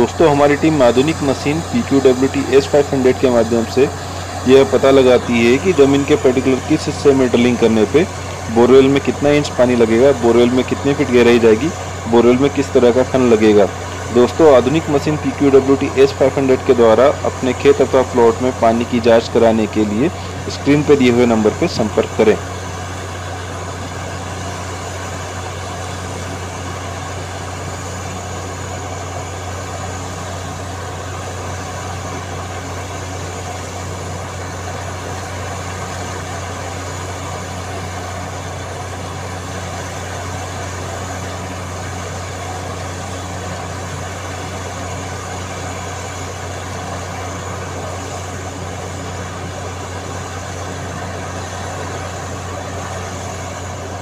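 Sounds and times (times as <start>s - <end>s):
drilling rig engine drone: 0.0s - 54.0s.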